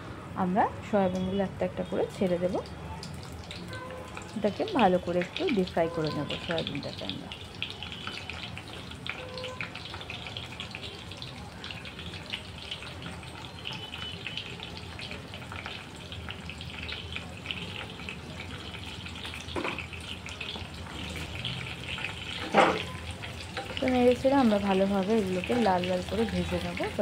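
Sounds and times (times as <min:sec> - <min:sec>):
food deep-frying in oil: 0:00.4 - 0:27.0.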